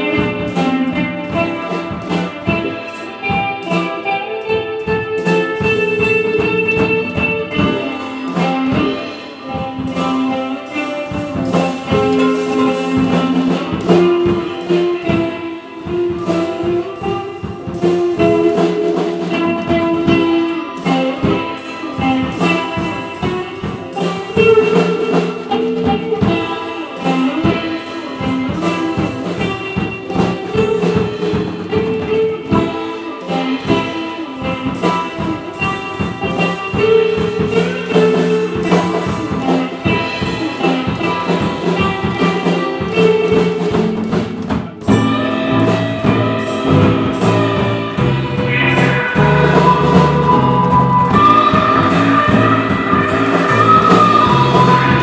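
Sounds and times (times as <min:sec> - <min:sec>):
live band with guitar and drums: 0:00.0 - 0:55.0.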